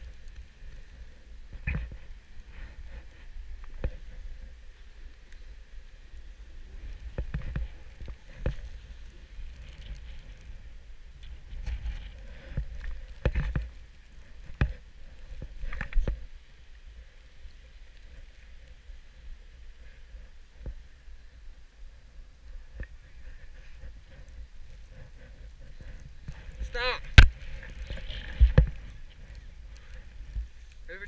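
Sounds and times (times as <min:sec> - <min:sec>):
snowboard scraping over snow: 0:00.0 - 0:31.0
wind on microphone: 0:00.0 - 0:31.0.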